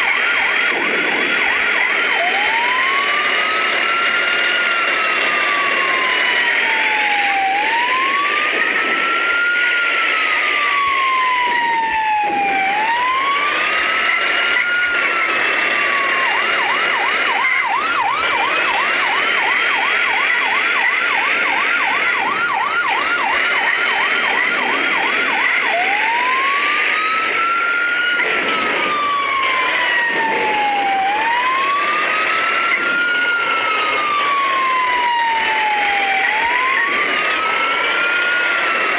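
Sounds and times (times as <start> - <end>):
emergency siren wailing and yelping: 0.0 - 38.9
higher gliding siren: 0.0 - 38.9.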